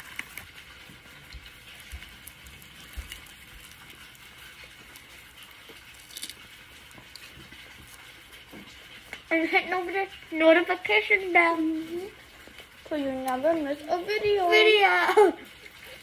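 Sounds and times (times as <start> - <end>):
quiet chewing: 0.0 - 16.0.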